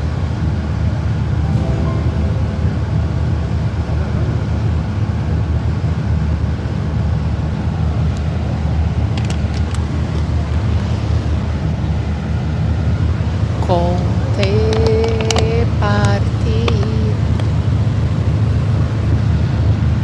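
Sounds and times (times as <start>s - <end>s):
ferry engine deep rumble: 0.0s - 20.0s.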